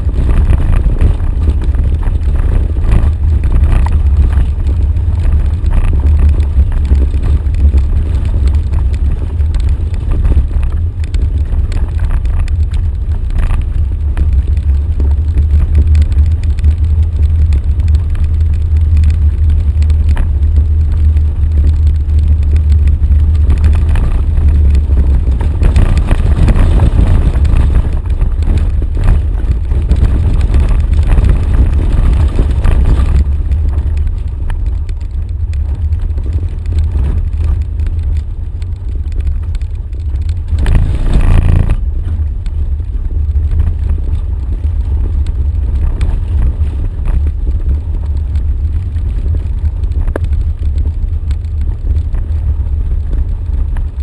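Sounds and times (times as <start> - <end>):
off-road vehicle rumbling: 0.0 - 54.0.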